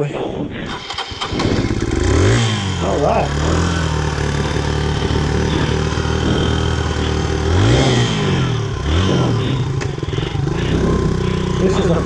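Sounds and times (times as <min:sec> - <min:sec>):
motorcycle engine idling and revving: 0:00.6 - 0:12.0.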